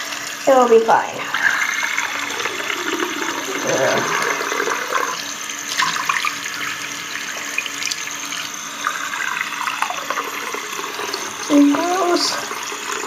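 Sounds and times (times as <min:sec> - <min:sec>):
tap water splashing into sink: 0:02.1 - 0:13.0.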